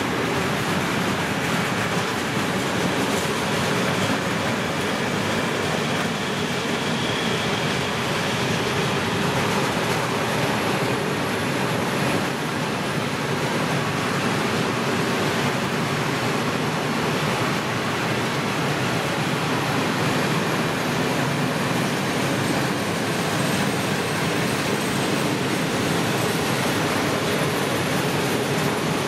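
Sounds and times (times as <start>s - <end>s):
train wheels on rails: 0.0s - 29.0s.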